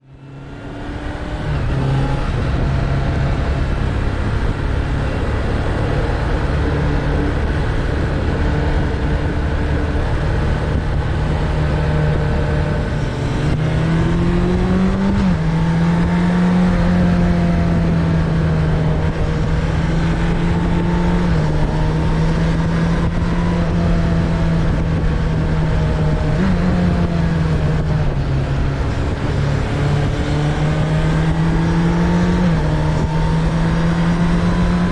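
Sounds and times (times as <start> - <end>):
motorcycle engine running: 0.0 - 34.9
wind noise: 0.0 - 34.9.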